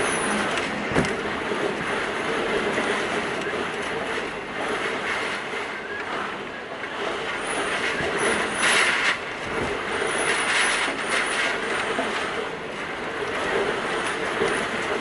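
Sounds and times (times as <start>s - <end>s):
driving rain: 0.0s - 15.0s.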